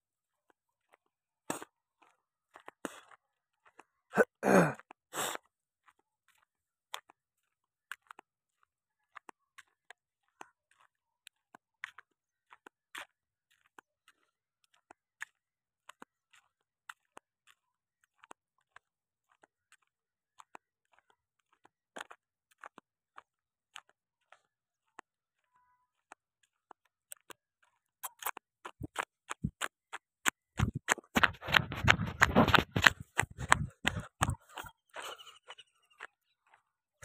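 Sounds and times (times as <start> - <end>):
footsteps on dirt road: 0.0 - 37.0.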